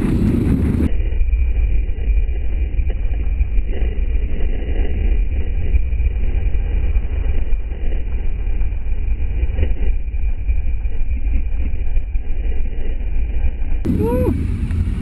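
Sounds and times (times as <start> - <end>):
motorcycle engine drone: 0.0 - 15.0
wind noise: 0.0 - 15.0.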